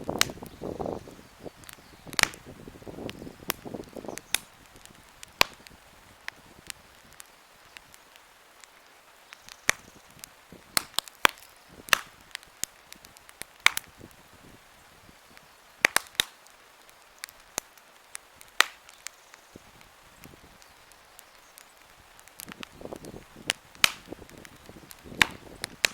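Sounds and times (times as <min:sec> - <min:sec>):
campfire crackling and popping: 0:00.0 - 0:25.9
steady hiss of burning fire: 0:00.0 - 0:25.9.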